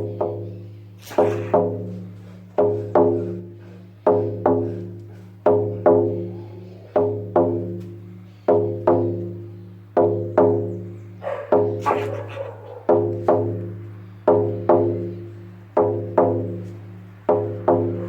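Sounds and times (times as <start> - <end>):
drum beaten in paired strikes: 0.0 - 18.0.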